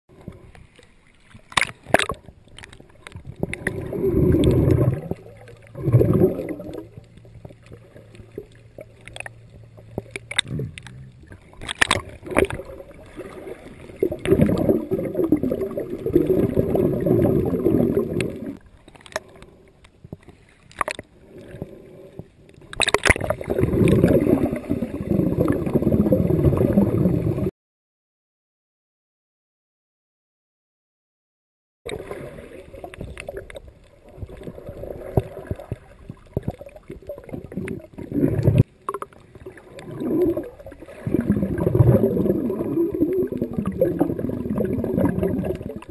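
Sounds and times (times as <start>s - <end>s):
underwater bubbling water: 0.1s - 27.5s, 31.9s - 45.9s.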